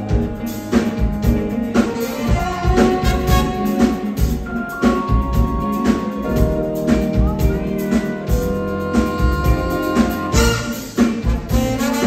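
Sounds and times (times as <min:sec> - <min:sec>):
horn section playing: 0:00.0 - 0:07.0, 0:07.7 - 0:12.0
drum kit beat: 0:00.0 - 0:12.0.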